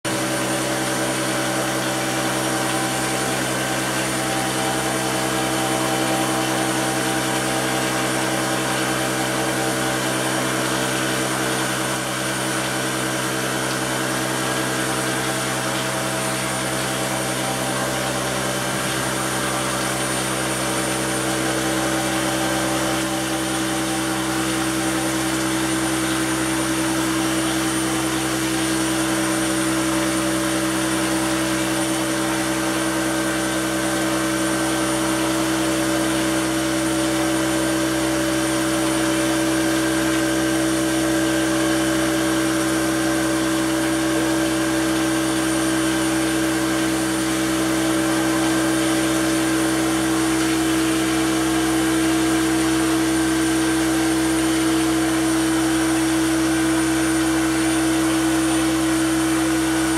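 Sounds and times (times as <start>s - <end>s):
plastering machine droning: 0.0s - 59.9s.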